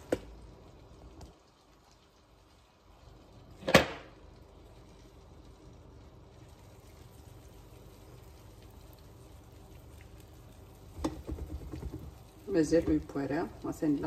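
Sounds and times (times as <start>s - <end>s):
batter sizzling in a frying pan: 0.0s - 14.0s.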